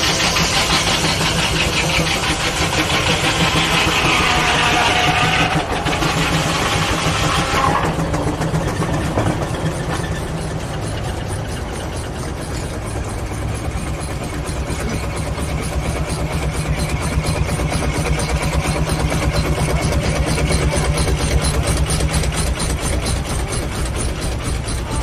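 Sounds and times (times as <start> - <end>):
engine running with rapid beat: 0.0 - 25.0.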